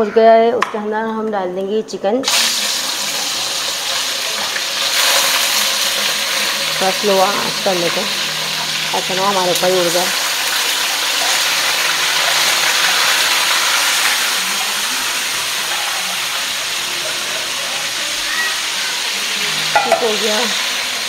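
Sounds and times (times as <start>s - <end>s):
chicken sizzling in hot oil: 2.2s - 21.0s.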